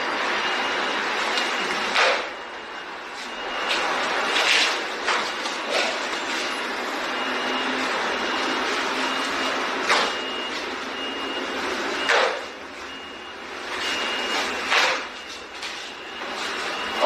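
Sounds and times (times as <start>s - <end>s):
high electronic beep: 0.0s - 17.0s
steady background noise: 0.0s - 17.0s.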